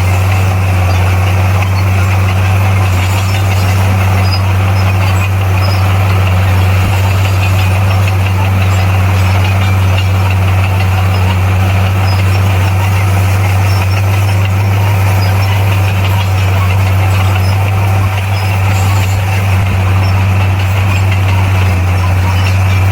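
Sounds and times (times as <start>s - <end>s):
heavy diesel engine droning: 0.0s - 22.9s.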